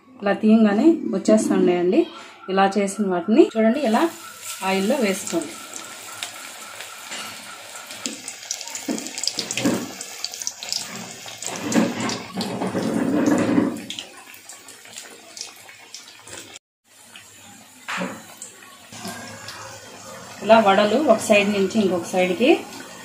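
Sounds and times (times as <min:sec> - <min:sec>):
batter deep-frying in hot oil: 0:03.8 - 0:23.0.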